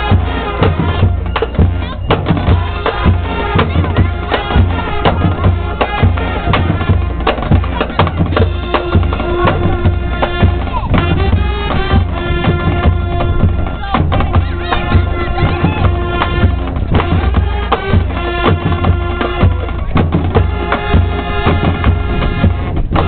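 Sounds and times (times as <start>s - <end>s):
loud music with busy drum beat: 0.0s - 23.0s.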